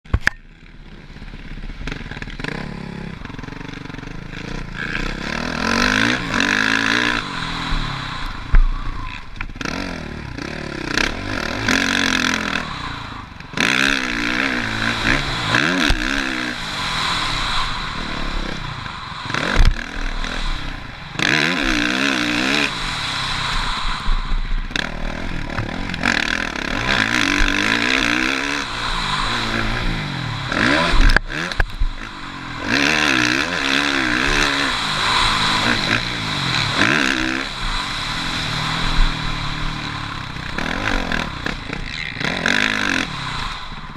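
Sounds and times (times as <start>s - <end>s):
motocross bike engine revving: 0.1s - 43.9s
rushing wind noise: 5.0s - 43.9s.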